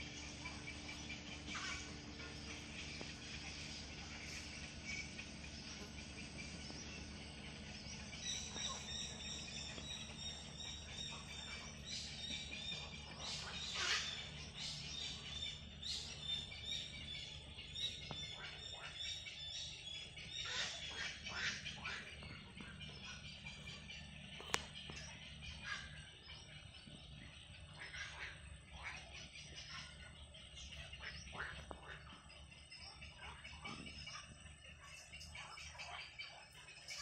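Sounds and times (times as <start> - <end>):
birds calling and chirping: 0.0 - 37.0
sharp bird calls: 0.0 - 37.0
steady low hum: 0.0 - 37.0.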